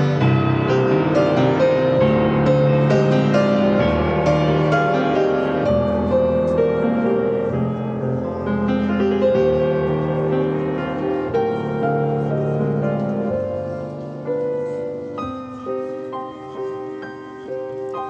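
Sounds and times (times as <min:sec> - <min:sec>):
instrumental hymn music: 0:00.0 - 0:18.0.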